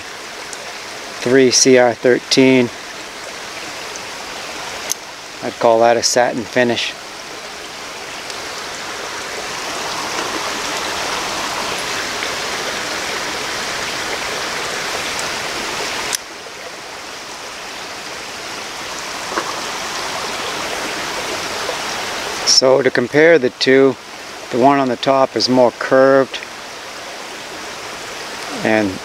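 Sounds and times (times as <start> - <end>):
creek water rushing over stones: 0.0 - 29.0.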